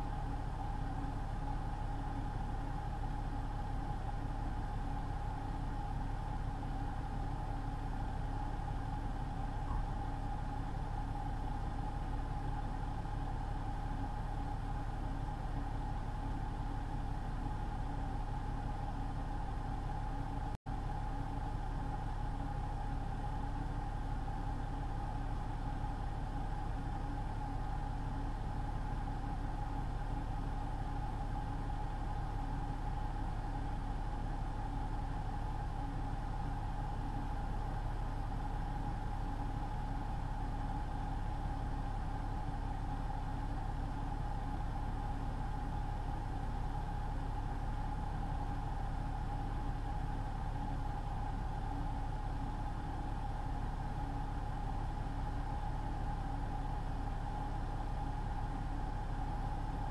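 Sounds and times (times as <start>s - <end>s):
truck engine and road drone: 0.0s - 59.9s.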